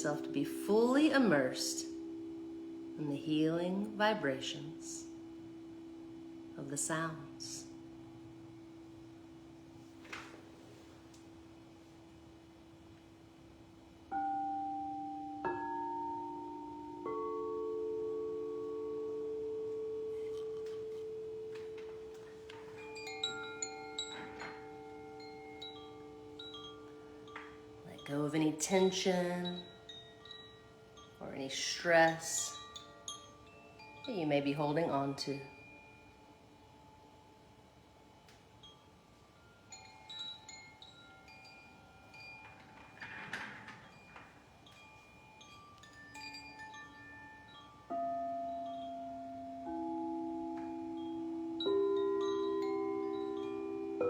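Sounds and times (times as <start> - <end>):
singing bowl ringing: 0.0 - 9.8, 14.0 - 37.8, 43.9 - 54.0
chimes tinkling: 0.0 - 10.0, 14.0 - 54.0
soft hiss: 0.0 - 54.0.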